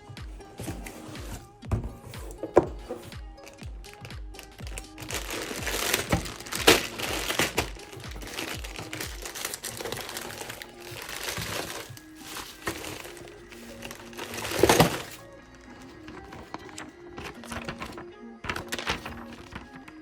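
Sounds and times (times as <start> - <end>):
background music: 0.0 - 20.0
plastic packaging crinkling: 3.4 - 20.0.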